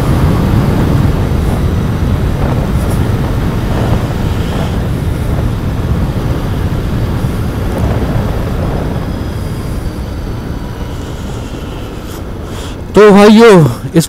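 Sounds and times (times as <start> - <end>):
motorcycle engine running: 0.0 - 14.0
road noise: 0.0 - 14.0
wind: 0.0 - 14.0.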